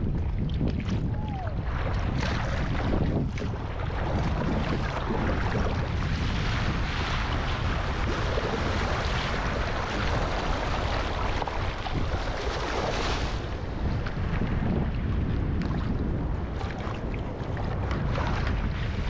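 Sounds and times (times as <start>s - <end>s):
wind buffeting microphone: 0.0s - 19.0s
ocean waves washing: 1.1s - 19.0s.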